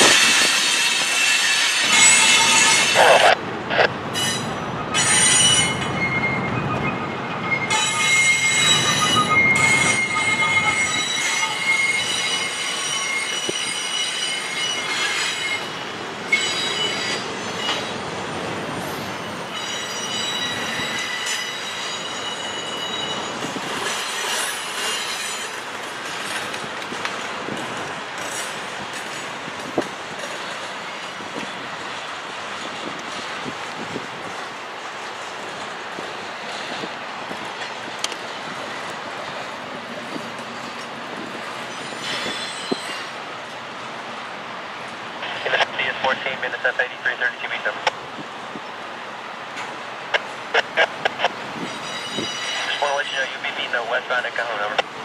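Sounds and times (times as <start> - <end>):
train wheels squealing on rails: 0.0 - 3.4, 4.1 - 34.5, 35.2 - 43.6, 50.4 - 54.8
freight train rumble: 0.0 - 55.0.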